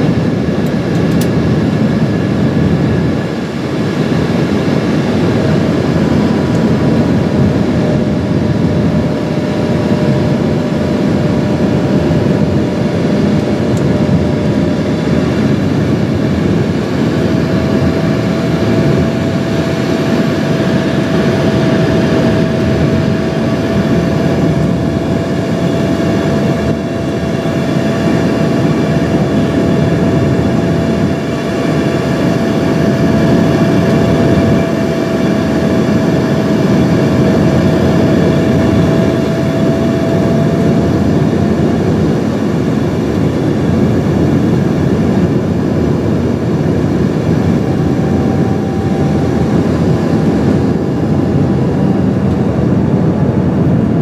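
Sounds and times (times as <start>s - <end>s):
aircraft cabin air rush: 0.0s - 54.0s
jet engines humming and whining: 0.0s - 54.0s.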